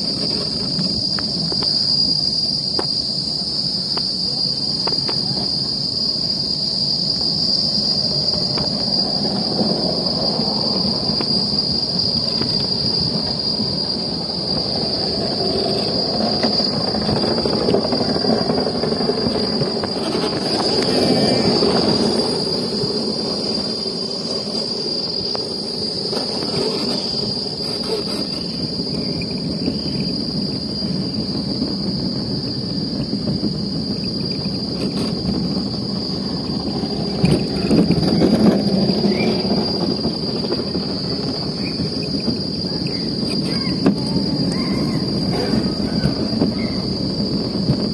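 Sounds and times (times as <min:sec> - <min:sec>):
cart wheels rolling rumble: 0:00.0 - 0:47.9
high-pitched insect drone: 0:00.0 - 0:47.9.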